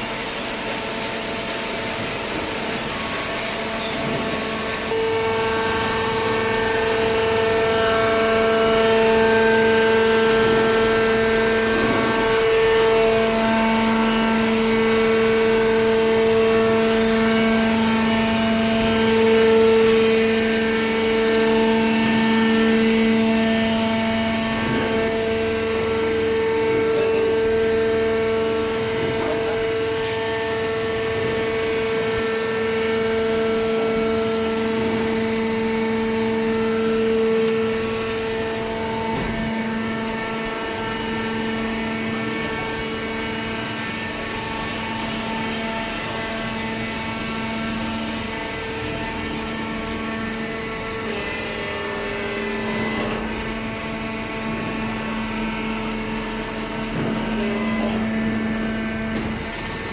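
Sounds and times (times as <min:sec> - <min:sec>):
hydraulic baler whining hum: 0:00.0 - 0:59.9.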